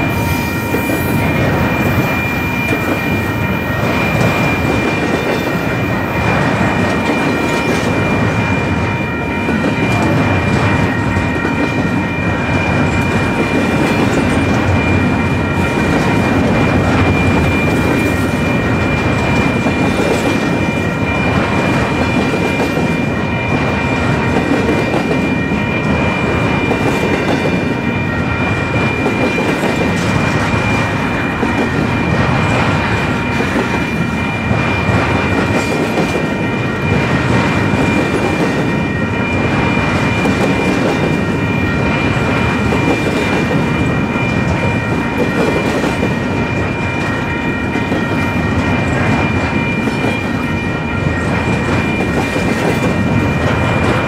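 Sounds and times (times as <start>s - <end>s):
clickety-clack over rail joints: 0.0s - 54.0s
high-pitched ringing: 0.0s - 54.0s
train wheels on rail: 0.0s - 54.0s.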